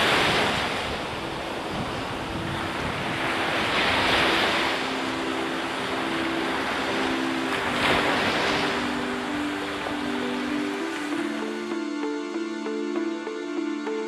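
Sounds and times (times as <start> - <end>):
ocean surf breaking: 0.0 - 14.0
soft low musical notes: 0.9 - 14.0.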